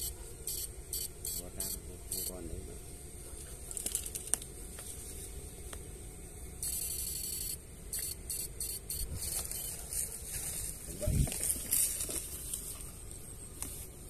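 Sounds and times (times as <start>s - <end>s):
electrofishing rig buzzing and crackling: 0.0s - 14.0s.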